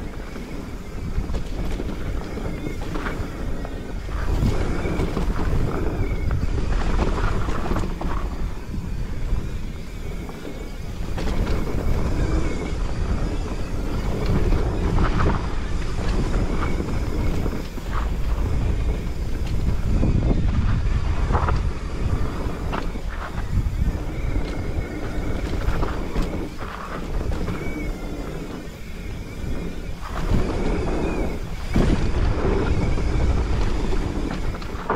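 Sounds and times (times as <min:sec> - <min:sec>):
bike rattling and knocking: 0:00.0 - 0:34.9
bike tyres rolling over dirt and rocks: 0:00.0 - 0:34.9
wind buffeting microphone: 0:00.0 - 0:34.9.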